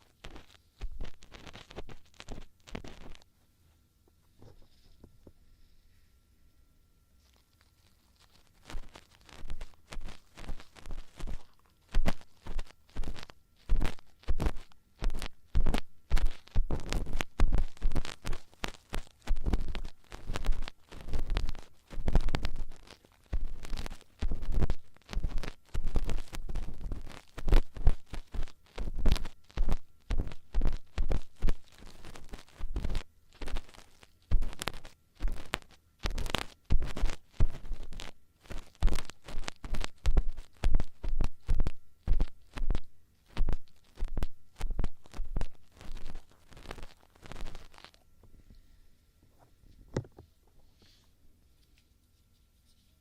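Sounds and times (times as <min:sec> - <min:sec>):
tools scraping a microphone: 0:00.0 - 0:03.2, 0:07.2 - 0:48.0.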